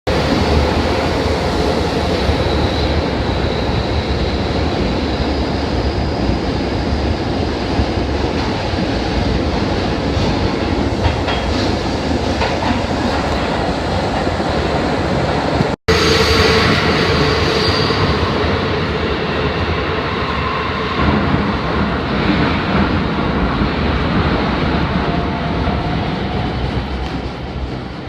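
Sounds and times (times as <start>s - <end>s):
electric train rumbling in tunnel: 0.1s - 28.0s.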